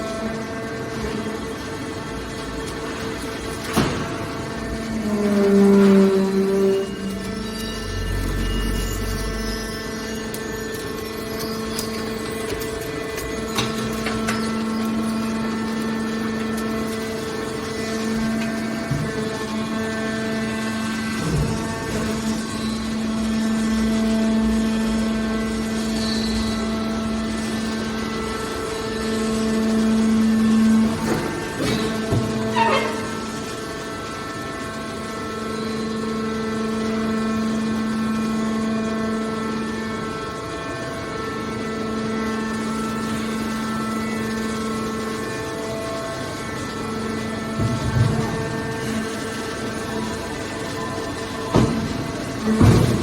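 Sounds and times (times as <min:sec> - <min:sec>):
baler pump motor humming: 0:00.0 - 0:53.0.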